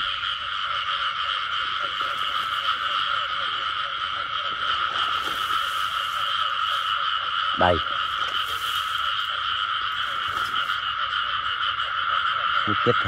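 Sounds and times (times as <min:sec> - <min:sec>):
frog chorus: 0:00.0 - 0:13.0
individual frog croaks: 0:00.0 - 0:13.0.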